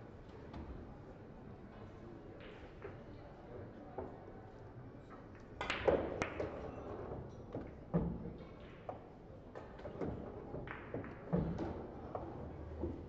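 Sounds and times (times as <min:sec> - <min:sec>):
low hum of a large hall: 0:00.0 - 0:13.0.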